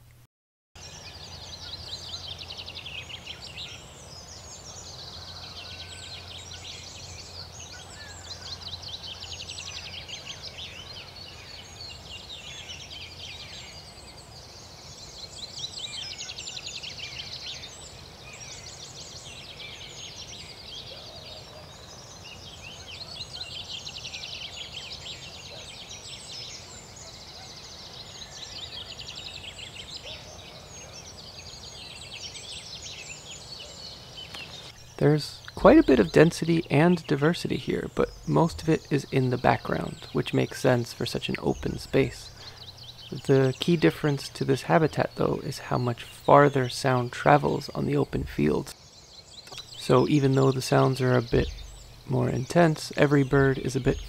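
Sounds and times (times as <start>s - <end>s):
many birds singing: 0.8s - 54.0s.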